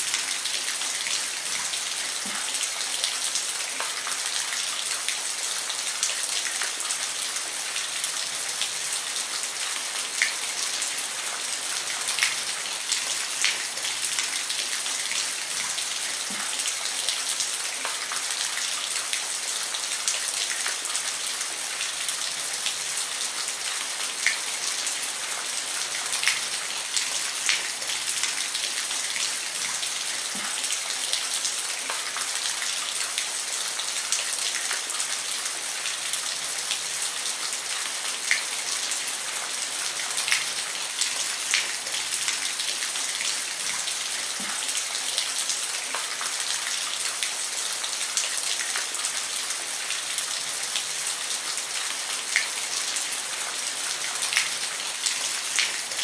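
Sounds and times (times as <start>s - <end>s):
rain hissing on a roof: 0.0s - 56.0s.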